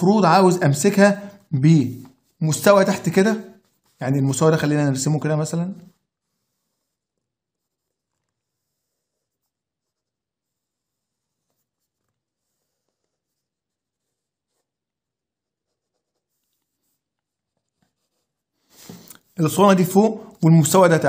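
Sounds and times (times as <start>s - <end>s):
pencil scratching on paper: 0.0s - 21.0s.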